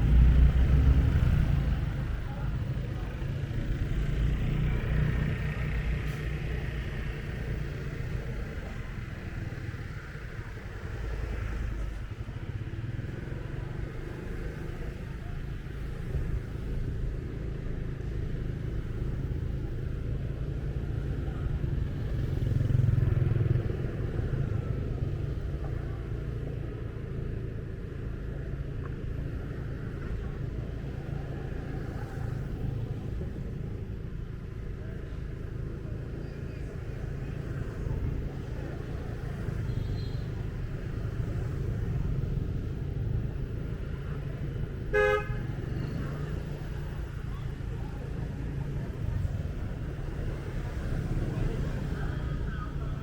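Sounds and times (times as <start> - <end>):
street traffic: 0.0 - 53.0.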